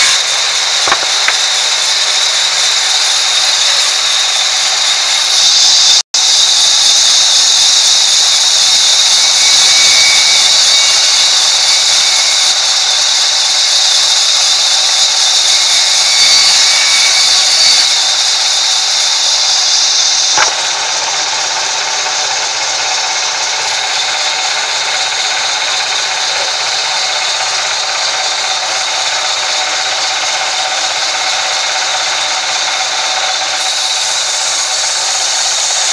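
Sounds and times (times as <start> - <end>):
band saw cutting log: 0.0 - 35.9.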